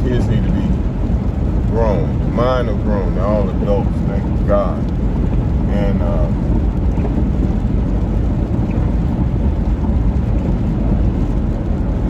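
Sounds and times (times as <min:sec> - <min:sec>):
rain: 0:00.0 - 0:12.0
van rumbling on wet road: 0:00.0 - 0:12.0.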